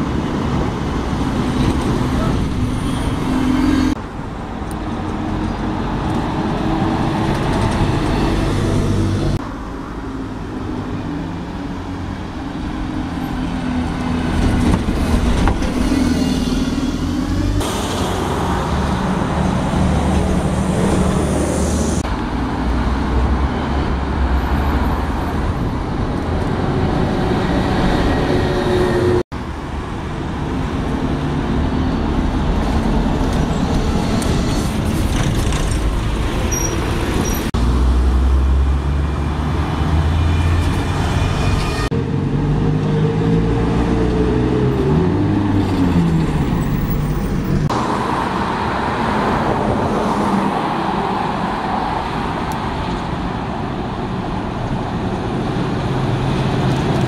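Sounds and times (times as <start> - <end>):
buses driving past: 0.0 - 57.0
road traffic: 0.0 - 57.0.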